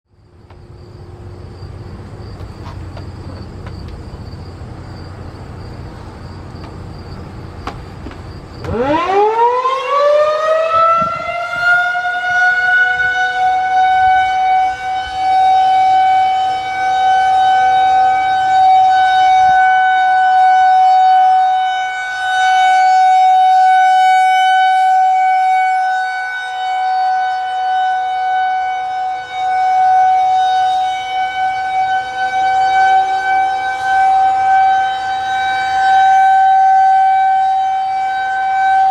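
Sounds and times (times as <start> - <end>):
rotating warning siren: 0.1 - 38.9.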